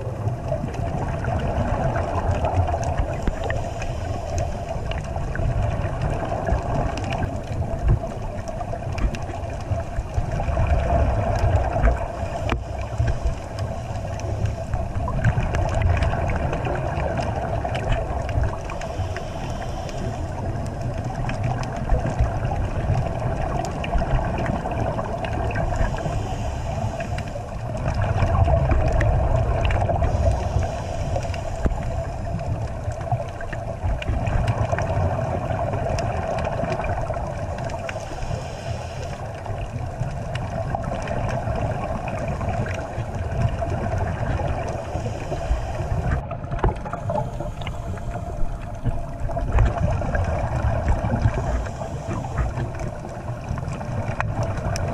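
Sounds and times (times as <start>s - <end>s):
constant hum: 0.0s - 54.9s
muffled underwater rumble: 0.0s - 54.9s.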